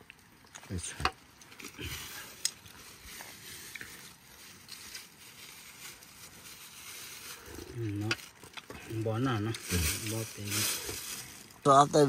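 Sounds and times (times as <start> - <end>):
chicken sizzling over fire: 0.0 - 12.0
fire crackles: 0.0 - 12.0.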